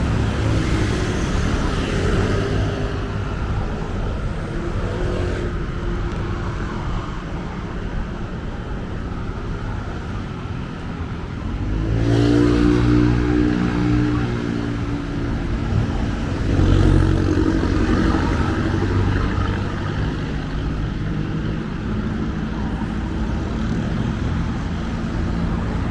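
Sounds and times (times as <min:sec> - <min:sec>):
passing motor vehicles rumble: 0:00.0 - 0:25.9
vehicle engine drone: 0:00.0 - 0:25.9.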